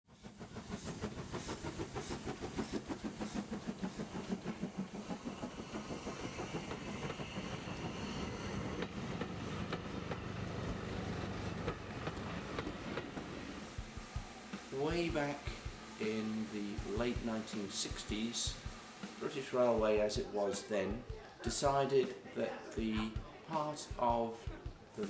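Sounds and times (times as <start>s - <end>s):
steam locomotive exhaust beat: 0.1s - 25.0s.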